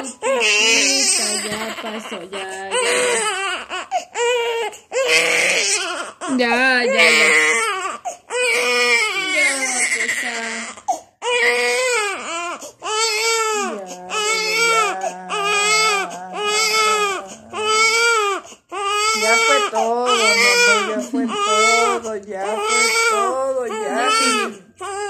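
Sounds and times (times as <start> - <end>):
baby crying: 0.0 - 25.0.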